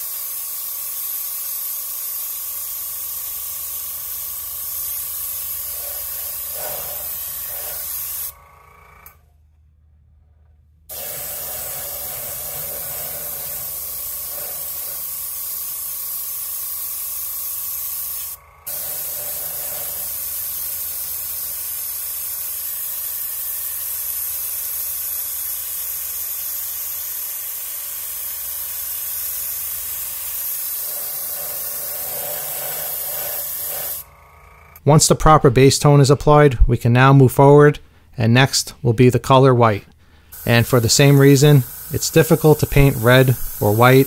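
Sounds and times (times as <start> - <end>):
airbrush spraying hiss: 0.0 - 8.4, 10.9 - 34.1, 40.2 - 44.0.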